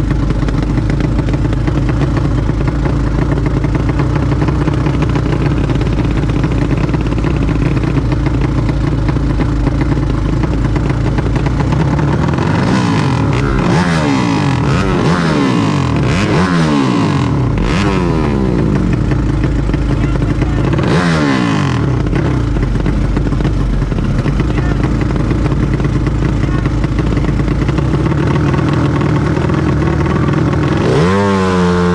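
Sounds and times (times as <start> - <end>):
motorcycle engines revving: 0.0 - 31.9.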